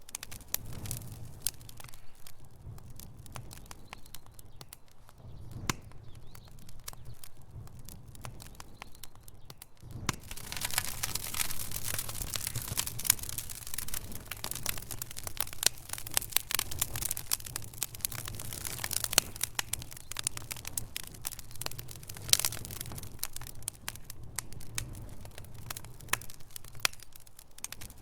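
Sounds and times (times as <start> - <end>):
logs crackling in fireplace: 0.0 - 28.0.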